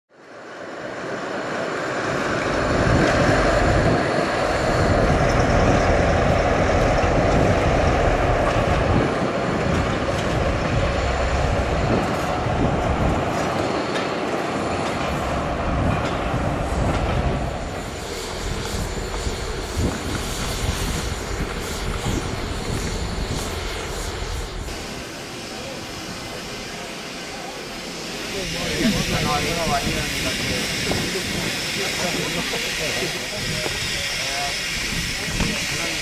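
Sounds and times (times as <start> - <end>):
diesel locomotive droning: 0.1 - 36.0.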